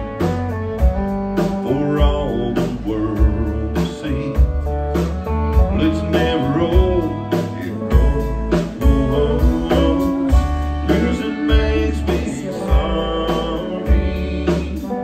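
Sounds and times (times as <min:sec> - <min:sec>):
drums keeping a steady beat: 0:00.0 - 0:15.0
electric bass: 0:00.0 - 0:15.0.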